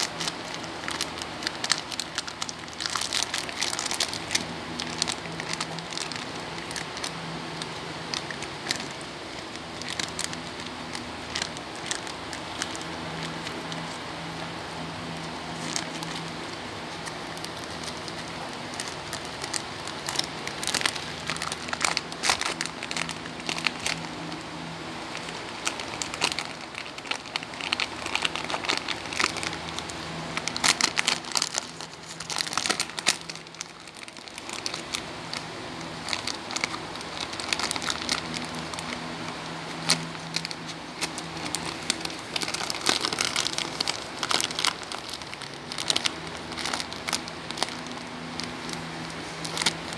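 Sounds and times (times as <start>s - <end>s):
dog chewing plastic packet: 0.0s - 49.9s
plastic wrapper crinkling: 0.0s - 49.9s.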